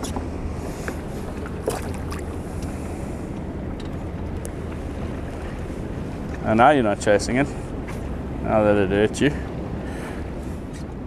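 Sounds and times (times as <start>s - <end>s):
water lapping against boat hull: 0.0s - 11.0s
wind rumble on microphone: 0.0s - 11.0s.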